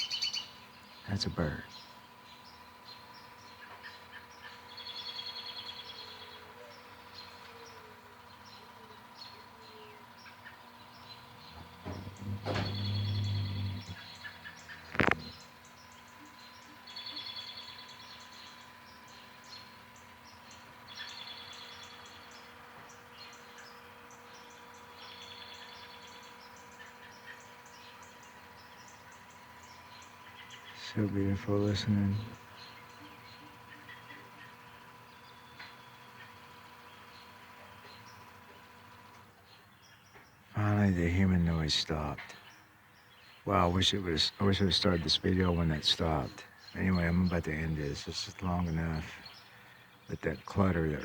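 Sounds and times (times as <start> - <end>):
buzzy trilled birdsong: 0.0 - 51.0
songbirds chirping and singing: 0.0 - 51.0
steady hum: 0.0 - 51.0.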